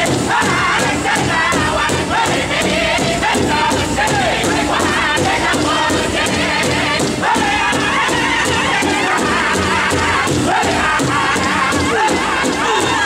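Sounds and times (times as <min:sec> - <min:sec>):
crowd noise: 0:00.0 - 0:13.0
fast beat on large hide drum: 0:00.0 - 0:13.0
men singing in high voices: 0:00.0 - 0:13.0.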